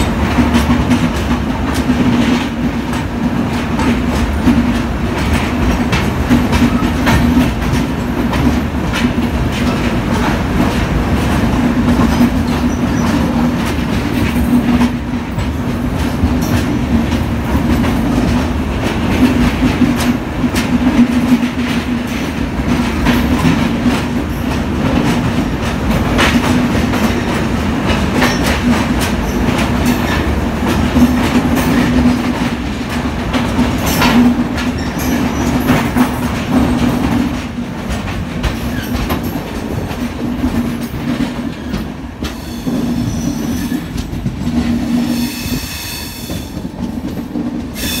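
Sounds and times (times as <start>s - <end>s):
train rumbling on rails: 0.0s - 48.0s
wheels clacking over rail joints: 0.0s - 48.0s.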